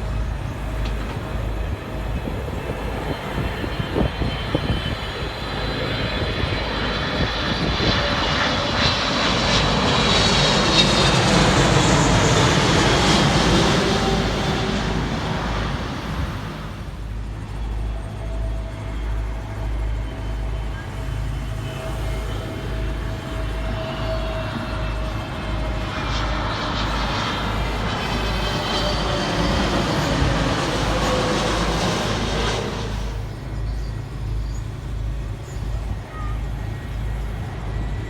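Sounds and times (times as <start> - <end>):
jet airliner passing by: 0.0 - 38.0.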